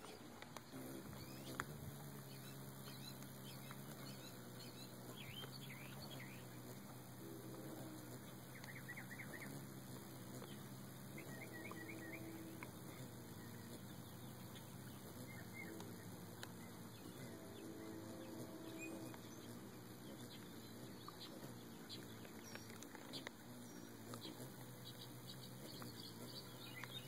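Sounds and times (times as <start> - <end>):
hummingbird chittering: 0.0 - 27.0
steady low hum: 0.0 - 27.0.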